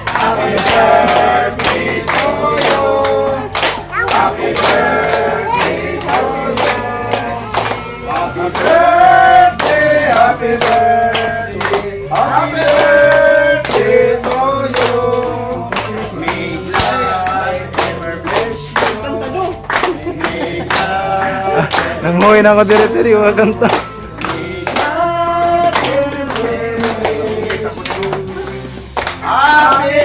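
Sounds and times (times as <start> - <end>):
song with singing over a beat: 0.0 - 30.0.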